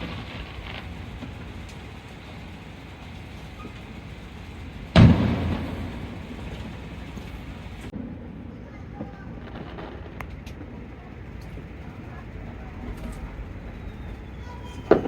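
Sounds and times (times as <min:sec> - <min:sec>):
firework shell bursting: 0:00.0 - 0:07.9, 0:09.4 - 0:15.0
faint background rumble: 0:00.0 - 0:15.0.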